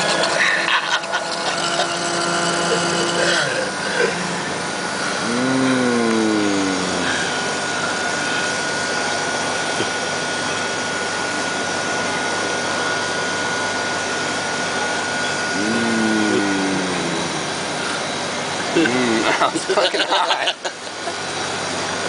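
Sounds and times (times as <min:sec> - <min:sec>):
thin high whine: 0:00.0 - 0:20.3.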